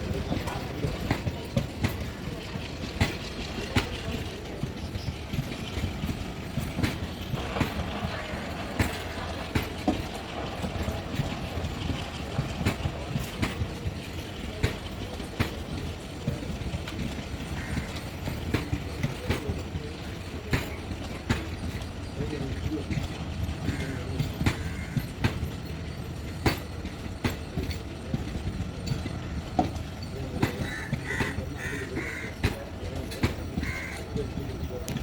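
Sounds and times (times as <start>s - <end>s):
goods train rumbling: 0.0s - 35.0s
wheels clicking over rail joints: 0.0s - 35.0s.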